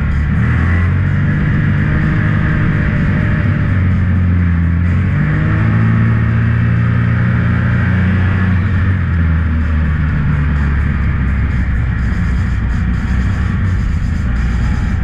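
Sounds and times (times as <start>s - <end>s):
engine pulling hard: 0.0s - 15.0s.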